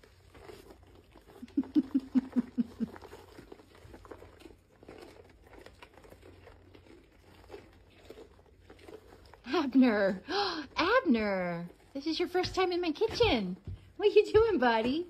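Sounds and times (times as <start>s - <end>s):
deer crunching treats: 0.0s - 15.0s.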